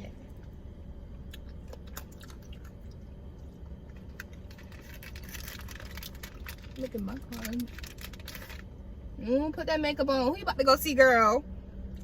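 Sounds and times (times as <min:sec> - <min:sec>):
car cabin low rumble: 0:00.0 - 0:12.0.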